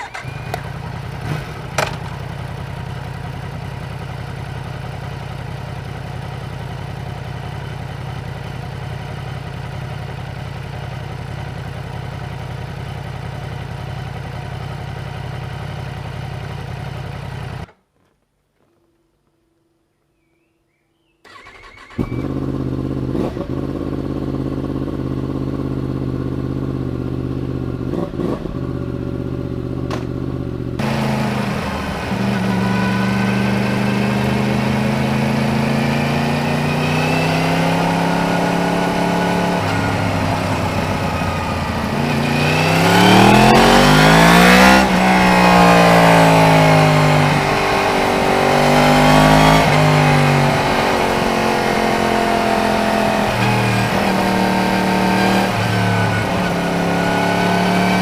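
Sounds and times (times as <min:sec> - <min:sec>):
motorcycle engine revving: 0:00.0 - 0:17.8, 0:21.2 - 0:58.0.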